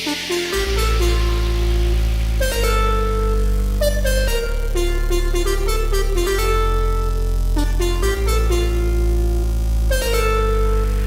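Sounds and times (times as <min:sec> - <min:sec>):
steady deep bass: 0:00.0 - 0:11.0.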